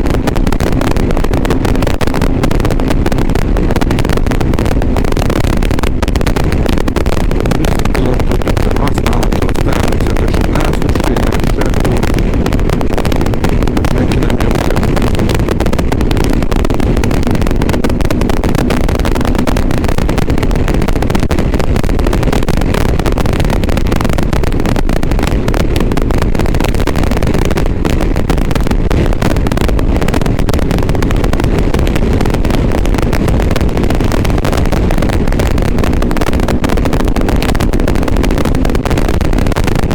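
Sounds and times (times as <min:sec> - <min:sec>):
motorcycle engine rumble: 0:00.0 - 0:39.9
wind on microphone: 0:00.0 - 0:39.9.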